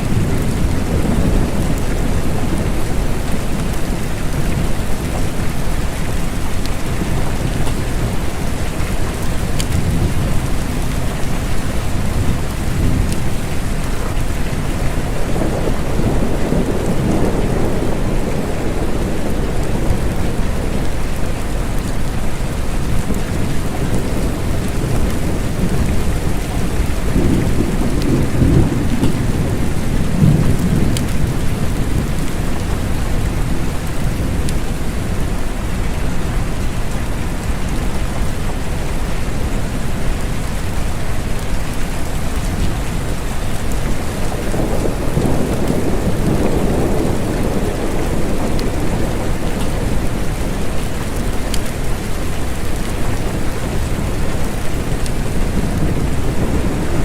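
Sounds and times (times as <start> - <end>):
rolling thunder rumbles: 0.0 - 40.5, 41.3 - 57.0
steady rain falling: 0.0 - 57.0.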